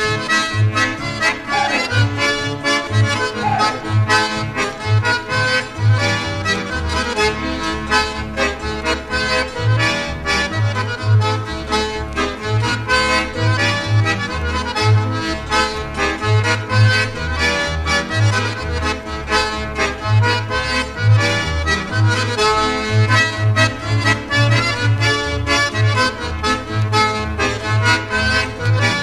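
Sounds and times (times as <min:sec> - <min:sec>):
accordion playing lively tune: 0:00.0 - 0:29.0.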